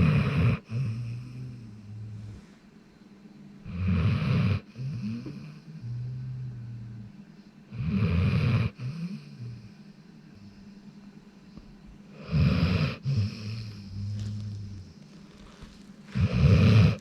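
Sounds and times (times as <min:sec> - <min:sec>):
dog snoring: 0:00.0 - 0:02.6, 0:03.6 - 0:10.8, 0:12.1 - 0:17.0.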